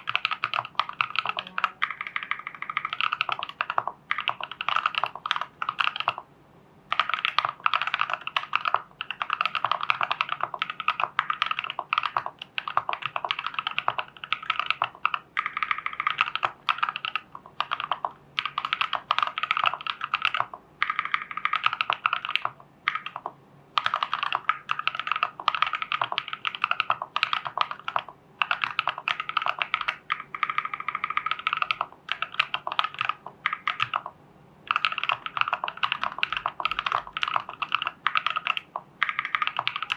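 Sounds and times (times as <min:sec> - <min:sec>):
typing on mechanical keyboard: 0:00.0 - 0:06.2, 0:06.9 - 0:34.1, 0:34.7 - 0:39.9.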